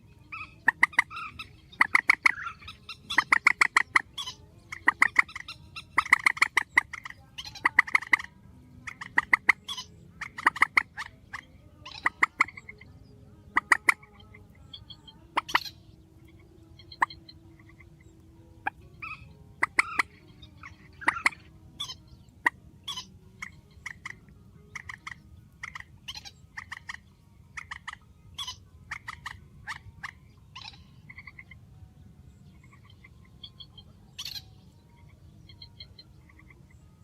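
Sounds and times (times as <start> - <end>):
soft chirping: 0.0 - 37.0
bird clucking and squawking: 0.3 - 12.9, 13.5 - 31.7.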